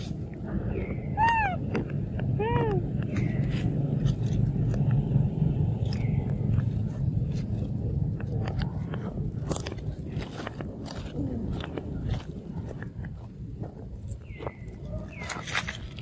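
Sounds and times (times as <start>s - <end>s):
low rumble: 0.0s - 16.0s
footsteps on dry leaves: 3.1s - 16.0s.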